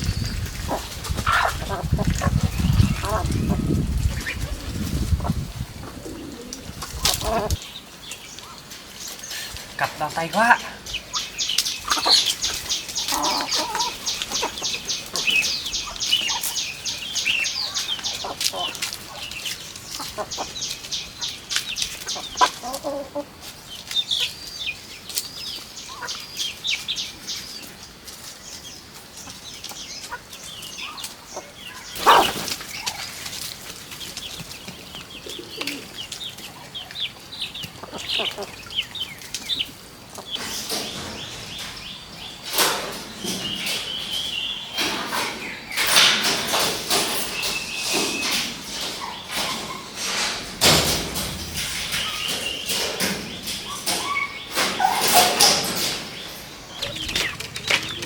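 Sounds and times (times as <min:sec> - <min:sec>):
chicks cheeping: 0:00.0 - 0:58.0.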